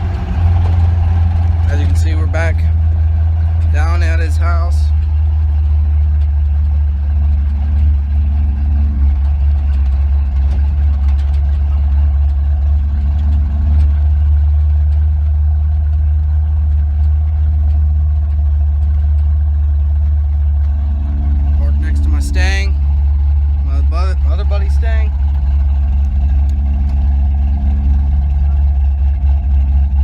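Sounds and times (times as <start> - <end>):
pickup engine and exhaust droning: 0.0 - 30.0.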